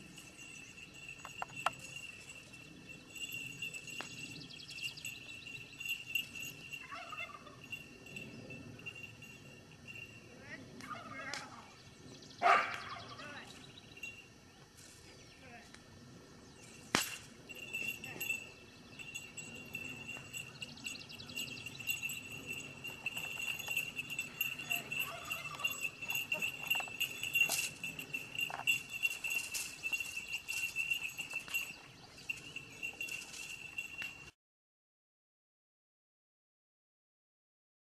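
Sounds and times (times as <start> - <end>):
small bells jingling: 0.0 - 11.3, 12.9 - 15.6, 16.5 - 34.4.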